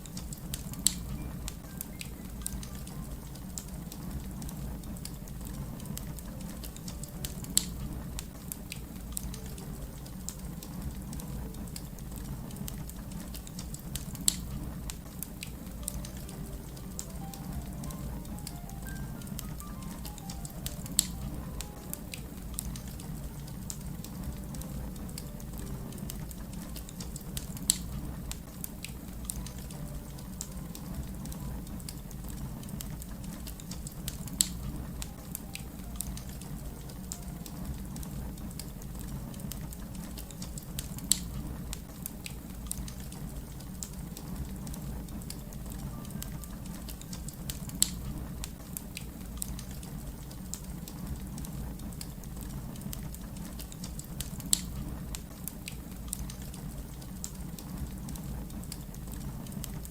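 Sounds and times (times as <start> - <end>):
fire pops: 0.0 - 45.5, 46.3 - 59.9
low steady rumble: 0.0 - 59.9
wood fire crackling: 0.0 - 59.9.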